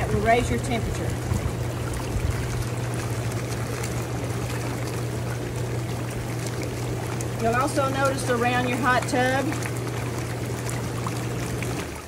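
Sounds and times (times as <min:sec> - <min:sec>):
churning splashing water: 0:00.0 - 0:12.0
jet pump humming: 0:00.0 - 0:12.0.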